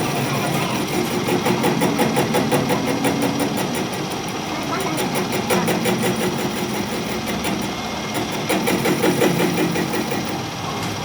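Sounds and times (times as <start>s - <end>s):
machine clattering: 0.0s - 11.0s.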